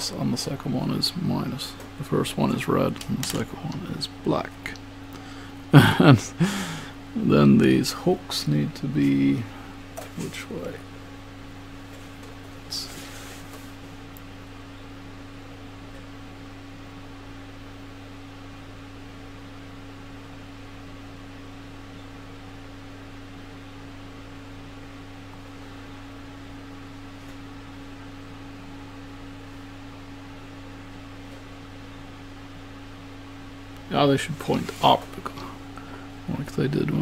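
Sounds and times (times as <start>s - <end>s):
constant hiss: 0.0s - 37.0s
low electrical hum: 0.0s - 37.0s.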